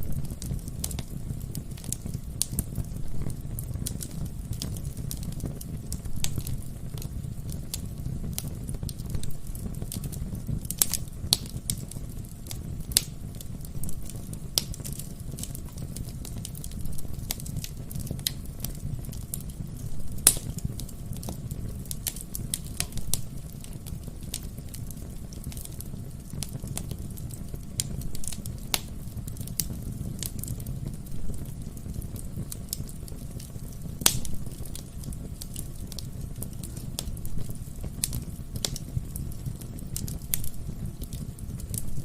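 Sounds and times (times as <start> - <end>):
logs popping and crackling: 0.0 - 42.0
wood fire burning: 0.0 - 42.0.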